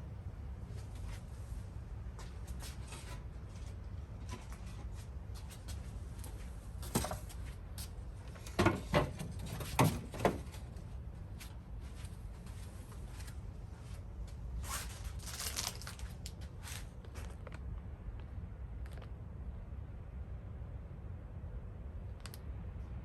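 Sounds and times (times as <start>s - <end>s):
low steady rumble: 0.0s - 6.8s, 10.5s - 23.0s.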